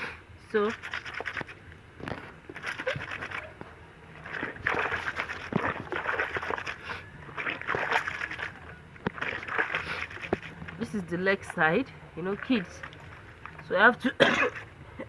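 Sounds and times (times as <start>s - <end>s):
wet clothes scrubbed by hand: 0.5s - 14.7s.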